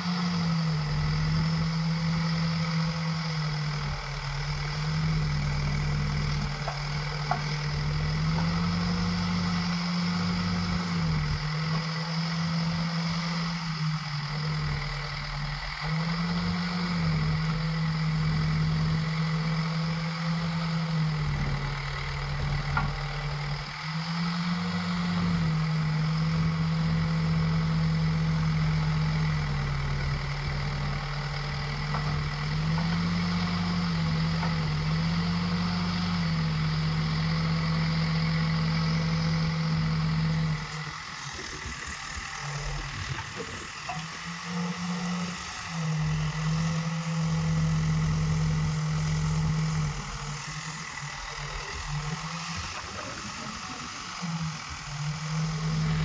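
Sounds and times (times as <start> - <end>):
backhoe diesel engine revving: 0.0 - 56.0.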